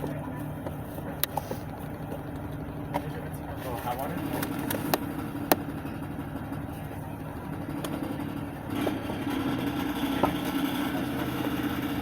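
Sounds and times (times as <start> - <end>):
van droning hum: 0.0 - 12.0.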